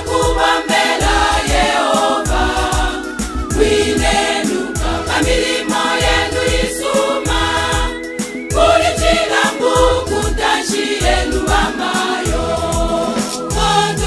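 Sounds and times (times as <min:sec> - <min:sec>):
choir singing gospel: 0:00.0 - 0:14.0
steady low beat: 0:00.0 - 0:14.0.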